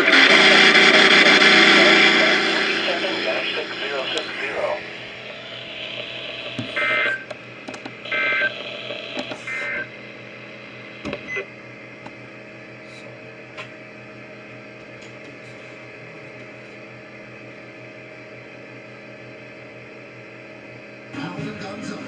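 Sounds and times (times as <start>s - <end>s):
low broadcast hum: 0.0s - 15.0s, 16.2s - 22.0s.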